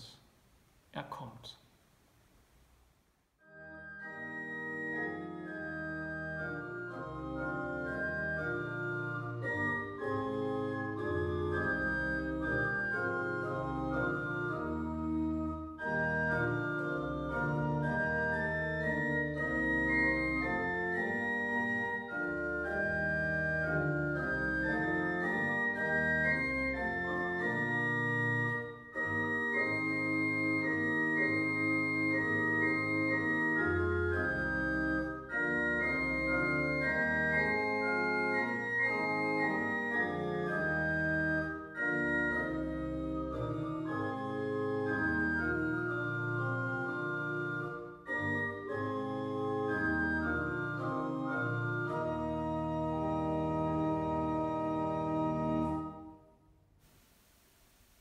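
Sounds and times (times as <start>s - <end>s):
church organ held chords: 3.4s - 56.4s.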